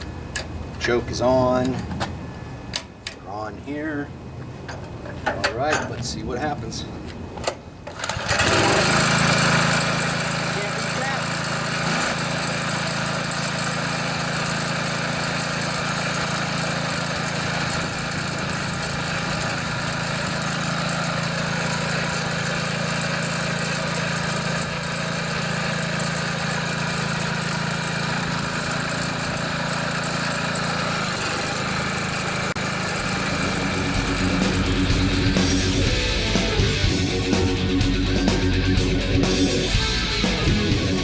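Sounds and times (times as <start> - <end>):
small engine running: 7.9 - 41.0.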